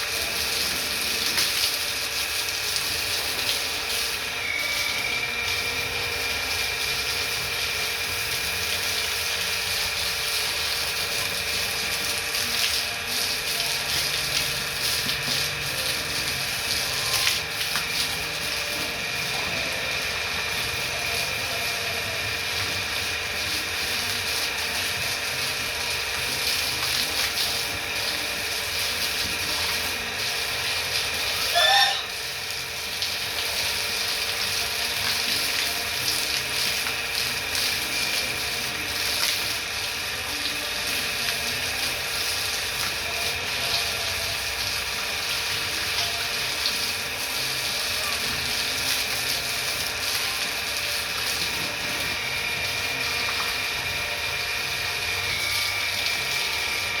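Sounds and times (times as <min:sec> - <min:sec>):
high machine whine: 0:00.0 - 0:57.0
machine hiss with steady tones: 0:00.0 - 0:57.0.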